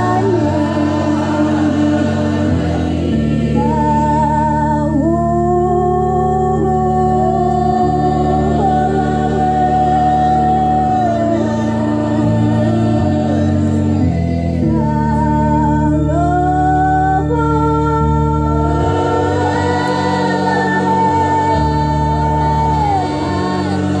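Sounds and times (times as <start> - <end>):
person singing long notes: 0.0 - 24.0
sustained low chords: 0.0 - 24.0.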